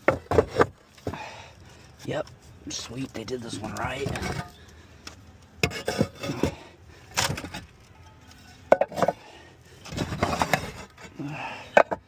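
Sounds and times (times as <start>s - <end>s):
roof tiles knocking and scraping: 0.0s - 1.5s, 2.1s - 12.0s.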